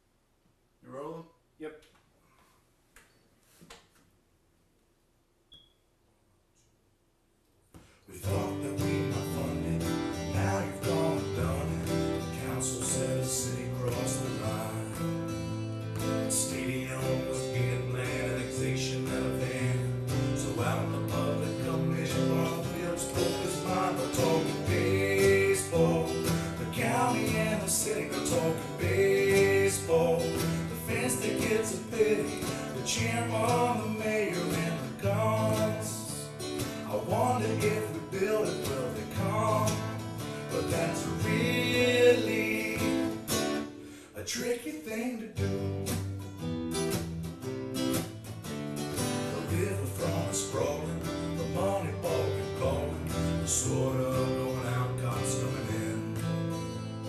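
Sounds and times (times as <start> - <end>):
country music with acoustic guitar: 7.8 - 57.0.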